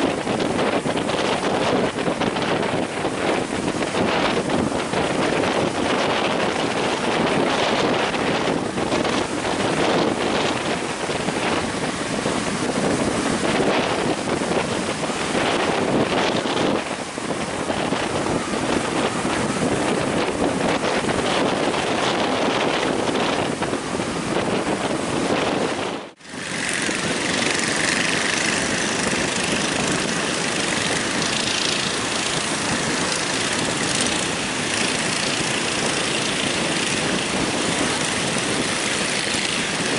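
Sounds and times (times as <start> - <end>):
breaking surf: 0.0 - 39.9
wind buffeting microphone: 0.0 - 39.9.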